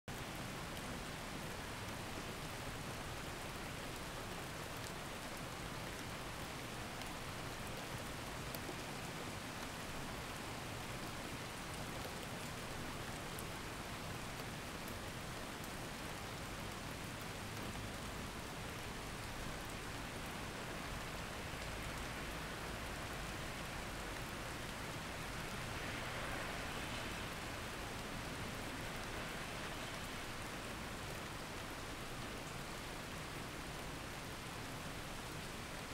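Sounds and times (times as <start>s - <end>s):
rain drops ticking: 0.1s - 35.9s
steady rain hiss: 0.1s - 35.9s.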